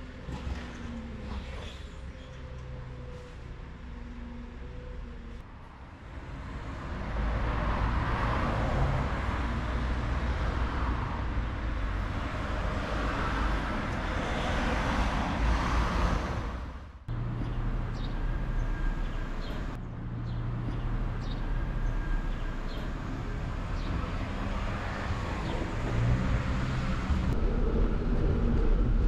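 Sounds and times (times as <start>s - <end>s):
vehicles passing on street: 0.0s - 29.0s.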